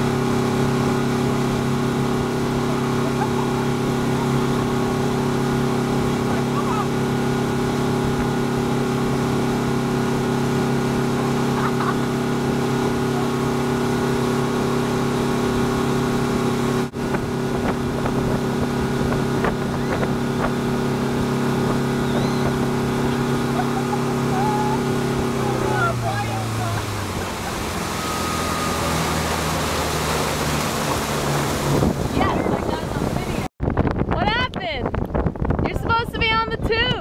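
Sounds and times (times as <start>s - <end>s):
motorboat engine drone: 0.0s - 34.0s
rush of boat wake: 0.0s - 37.0s.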